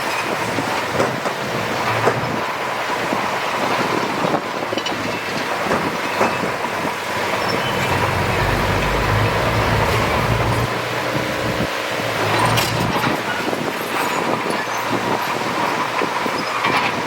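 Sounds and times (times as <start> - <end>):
steel tracks squealing and clanking: 0.0 - 17.0
diesel engine rumbling: 0.2 - 16.1.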